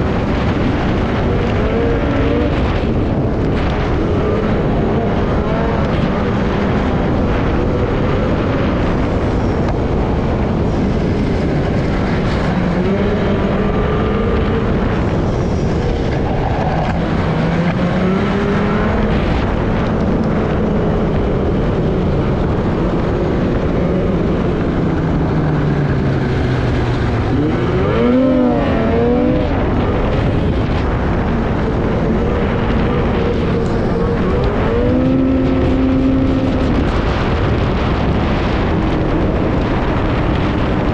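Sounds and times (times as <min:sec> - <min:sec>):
constant rushing noise: 0:00.0 - 0:40.9
snowmobile engine running: 0:00.0 - 0:40.9.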